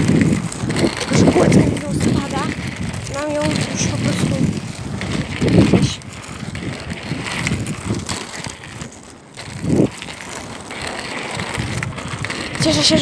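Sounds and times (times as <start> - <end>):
roller skate wheels on asphalt: 0.0 - 13.0.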